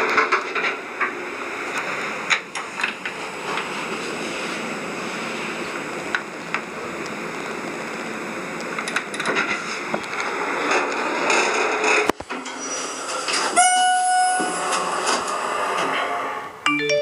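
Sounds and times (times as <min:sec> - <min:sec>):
elevator rushing noise: 0:00.0 - 0:16.7.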